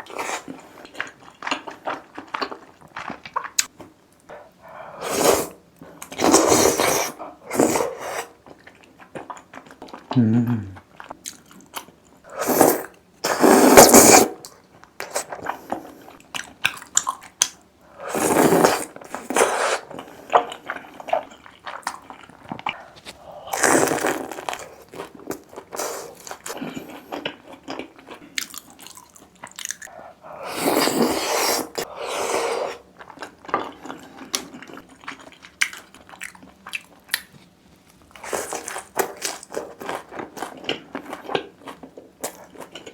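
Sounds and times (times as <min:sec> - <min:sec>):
soft chewing: 0:00.0 - 0:05.0, 0:05.8 - 0:12.2, 0:18.4 - 0:31.9, 0:32.5 - 0:42.9.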